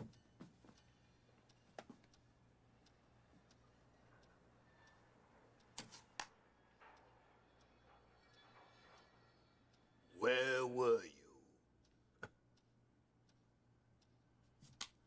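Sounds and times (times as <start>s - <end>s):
faint ticking: 0.0s - 15.0s.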